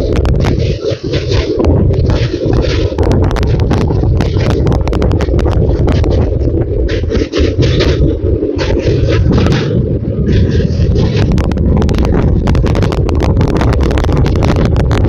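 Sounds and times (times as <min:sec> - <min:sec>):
rushing air: 0:00.0 - 0:15.0
sharp clicks and rattles: 0:00.0 - 0:15.0
train wheels rumbling on bridge: 0:00.0 - 0:15.0.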